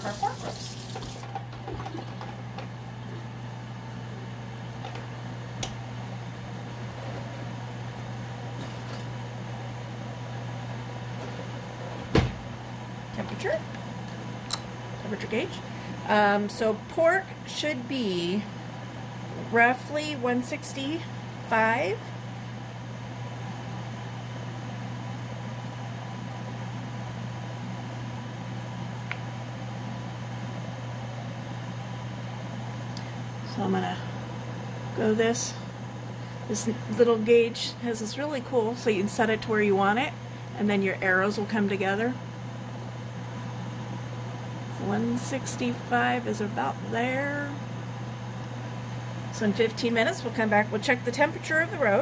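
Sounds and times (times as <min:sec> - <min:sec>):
cooker fan humming: 0:00.0 - 0:52.0.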